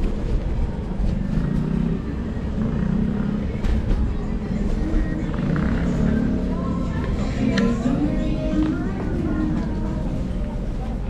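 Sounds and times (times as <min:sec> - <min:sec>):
wheels rolling on road: 0:00.0 - 0:11.0.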